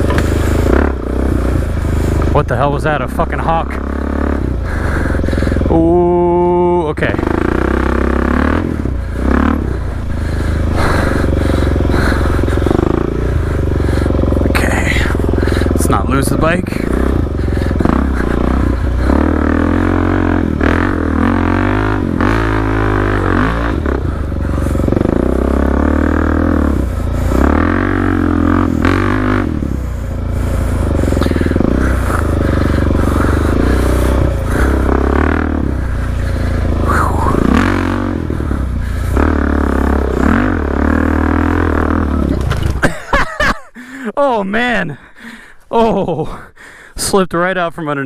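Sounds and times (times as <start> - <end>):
dirt bike engine revving: 0.0 - 44.1.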